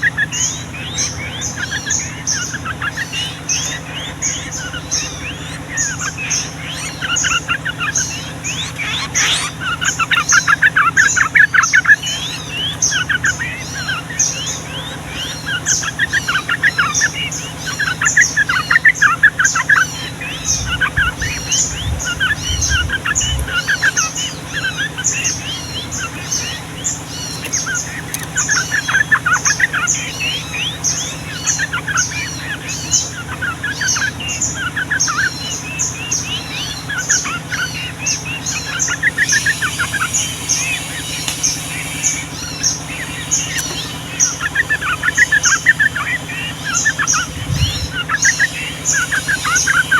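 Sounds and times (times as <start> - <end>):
birds chattering song: 0.0 - 49.9
faint low hum: 0.0 - 49.9.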